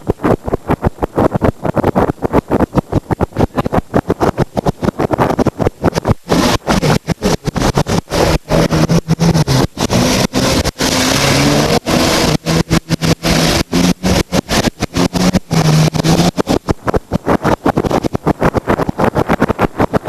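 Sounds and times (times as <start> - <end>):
jet ski engine hum: 0.0 - 20.0
water noise: 0.0 - 20.0
wind: 0.0 - 20.0.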